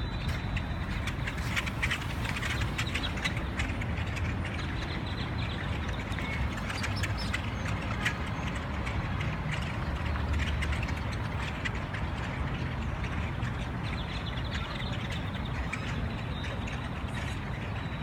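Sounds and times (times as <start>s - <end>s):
flock of birds chirping: 0.0s - 18.0s
low traffic rumble: 0.0s - 18.0s.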